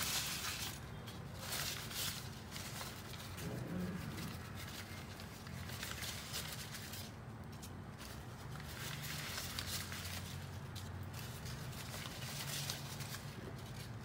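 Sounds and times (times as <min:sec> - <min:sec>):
faint low hum: 0:00.0 - 0:14.0
paper towel rustling: 0:00.0 - 0:14.0.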